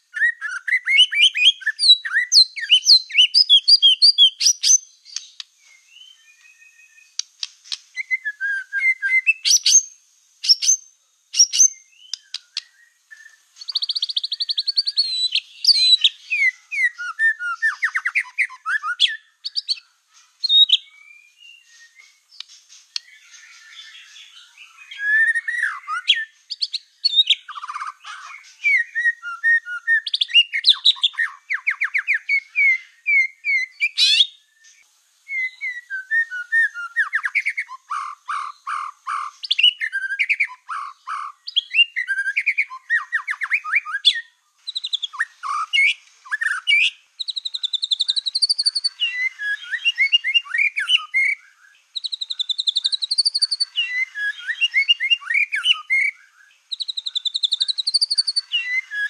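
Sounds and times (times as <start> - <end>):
songbird trills and whistles: 0.0 - 59.0.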